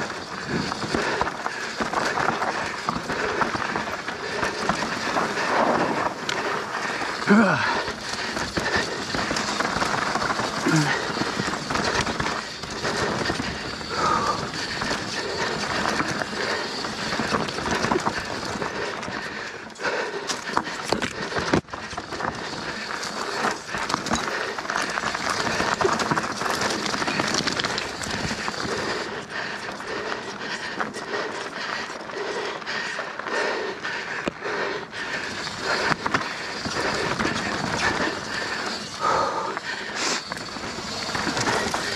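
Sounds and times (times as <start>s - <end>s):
bike rattling and knocking: 0.0s - 41.9s
bike tyres rushing over dirt: 0.0s - 41.9s.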